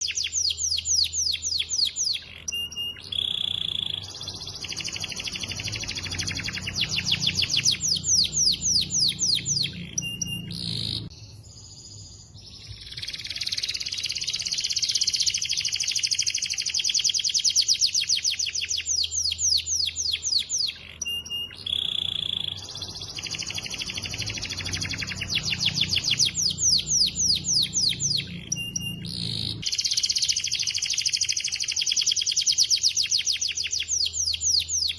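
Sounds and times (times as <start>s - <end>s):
canary singing: 0.0s - 34.9s.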